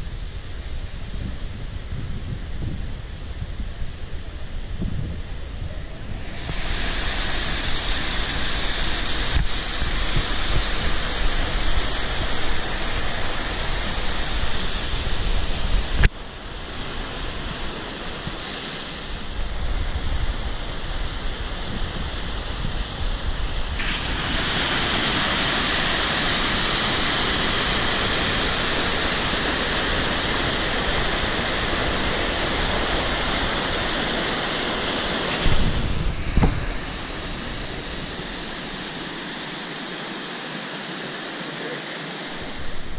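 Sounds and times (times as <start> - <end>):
wind rumbling on microphone: 0.0 - 39.6, 42.3 - 42.9
waterfall rushing: 5.8 - 42.9.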